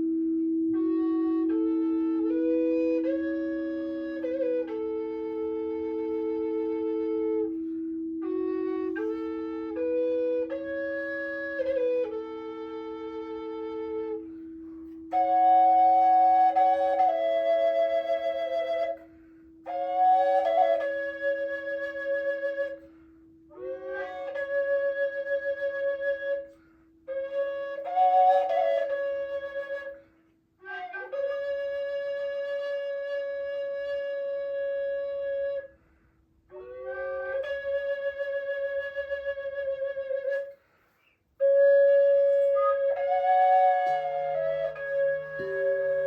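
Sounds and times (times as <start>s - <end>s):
flute playing slow music: 0.0s - 46.0s.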